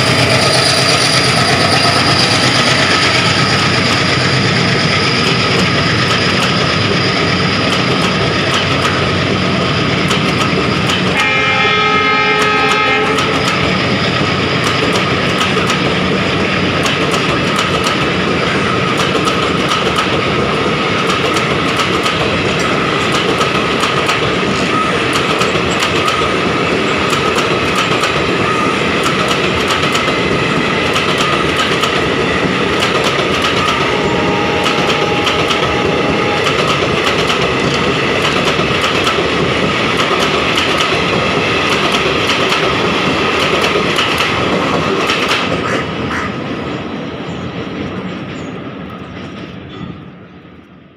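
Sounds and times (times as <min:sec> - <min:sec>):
train wheels clattering on rails: 0:00.0 - 0:50.2.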